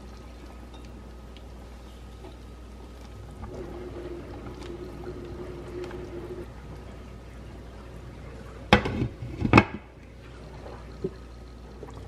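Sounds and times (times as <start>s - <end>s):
broth simmering in a pan: 0.0s - 12.0s.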